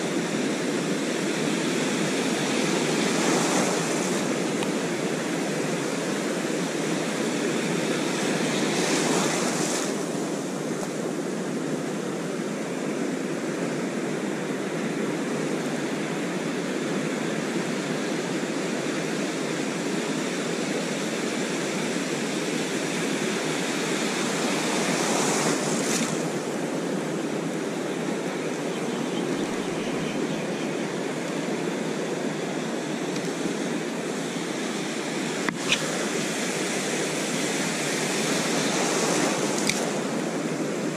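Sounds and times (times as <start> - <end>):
ocean surf rushing: 0.0 - 40.9
waves breaking: 0.0 - 40.9.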